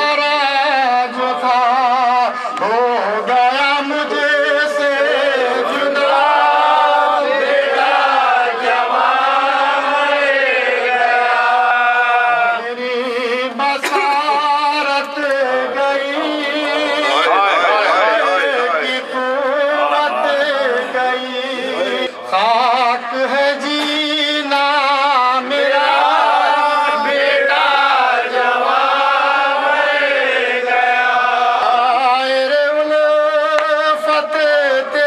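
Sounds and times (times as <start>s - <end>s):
man chanting a lament: 0.0s - 35.0s.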